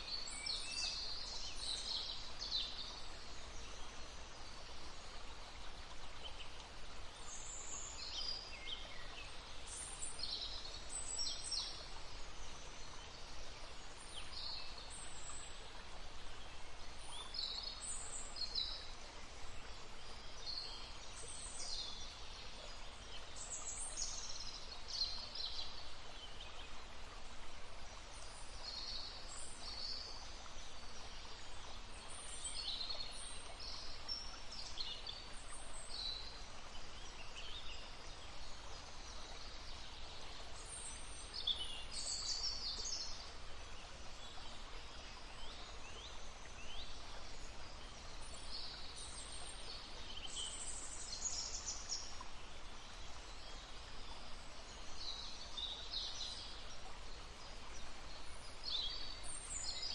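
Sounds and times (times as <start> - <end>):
flowing stream: 0.0 - 59.9.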